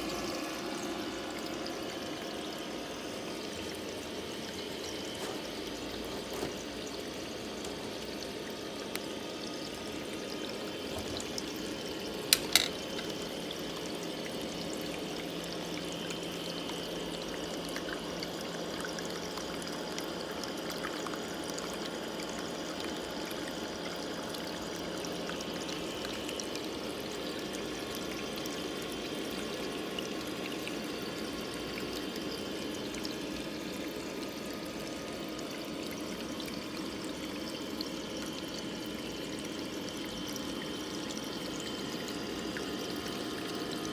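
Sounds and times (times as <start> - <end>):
water trickling from small waterfall: 0.0 - 43.9.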